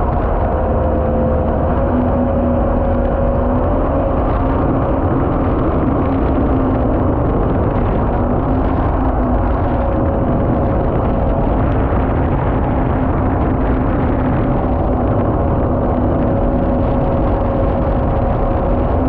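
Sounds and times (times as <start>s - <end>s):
boat engine running: 0.0s - 19.0s
rush of water and wind: 0.0s - 19.0s.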